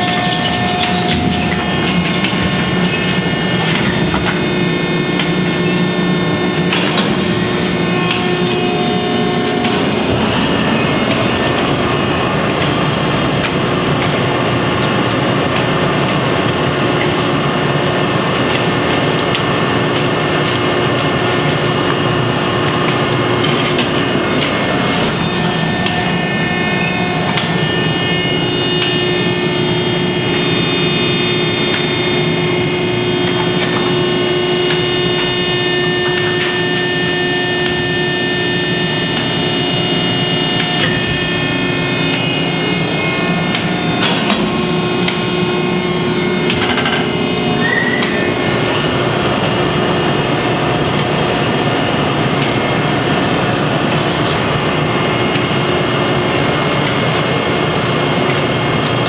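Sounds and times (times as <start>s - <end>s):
baler machinery running: 0.0s - 59.0s
machine whining tones: 0.0s - 59.0s.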